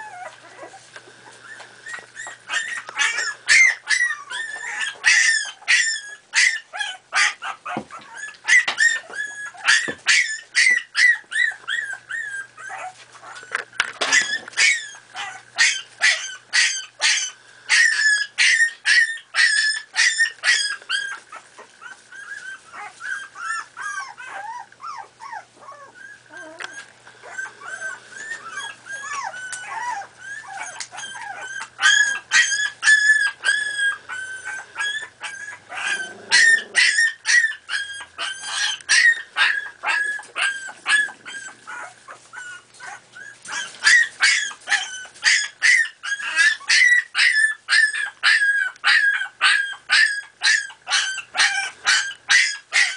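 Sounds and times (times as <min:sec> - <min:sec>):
small dogs yipping and whining: 0:00.0 - 0:52.9.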